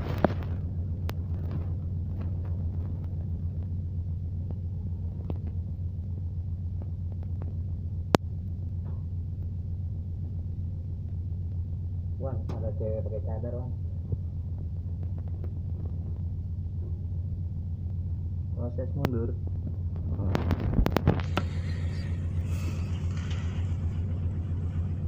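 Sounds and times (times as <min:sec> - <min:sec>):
ferry engines rumbling: 0:00.0 - 0:25.0.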